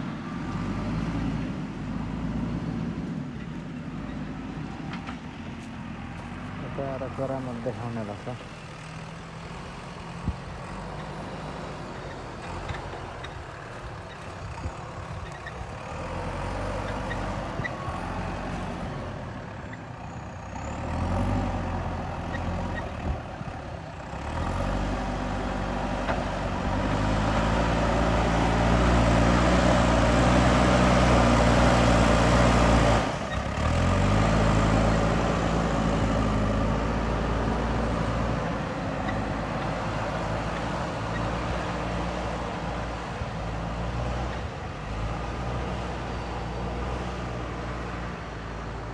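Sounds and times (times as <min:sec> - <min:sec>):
diesel engine revving: 0:00.0 - 0:03.1, 0:05.4 - 0:48.9.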